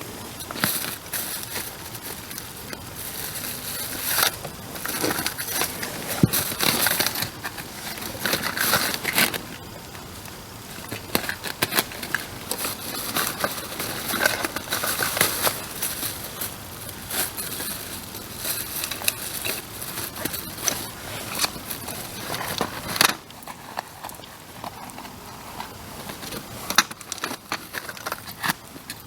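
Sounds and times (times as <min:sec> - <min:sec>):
bonfire crackling and snapping: 0:00.0 - 0:29.0.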